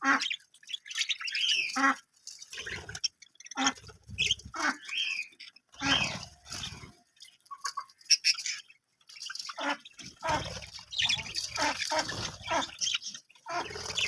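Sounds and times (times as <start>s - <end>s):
budgerigars chirping: 0.0s - 2.0s, 2.6s - 14.0s.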